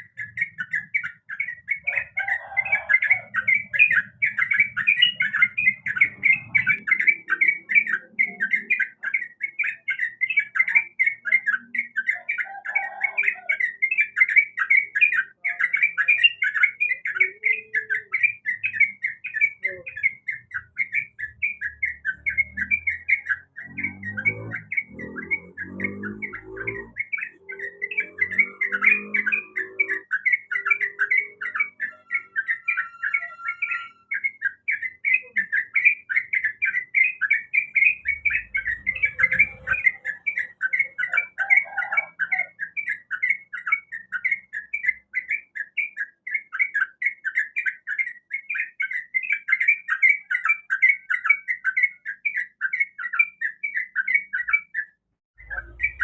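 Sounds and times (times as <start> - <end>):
bird singing chattering notes: 0.0 - 56.0.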